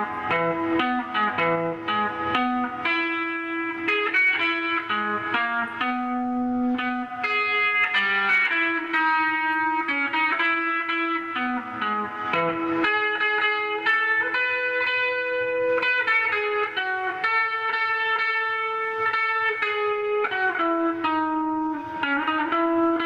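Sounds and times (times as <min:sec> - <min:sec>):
electric guitar lead melody: 0:00.0 - 0:23.0.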